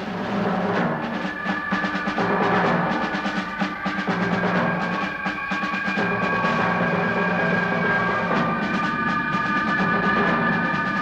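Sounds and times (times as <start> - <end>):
orchestral music with timpani: 0.0 - 11.0.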